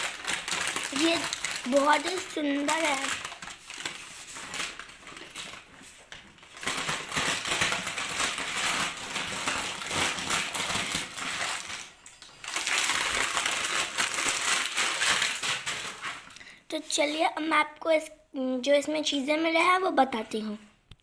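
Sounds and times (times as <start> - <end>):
plastic packaging crinkling: 0.0 - 17.2.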